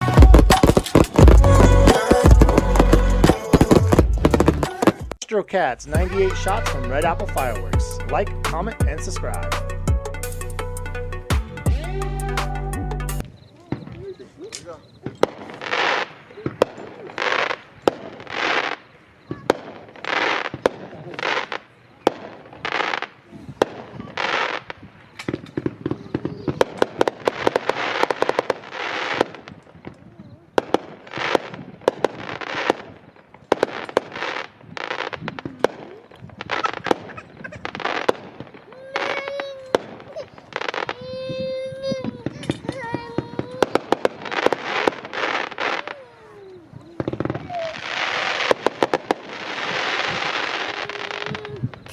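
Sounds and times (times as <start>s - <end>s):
fireworks shots firing: 0.0s - 5.2s, 13.2s - 51.9s
crackling pops: 0.0s - 5.9s, 13.2s - 51.9s.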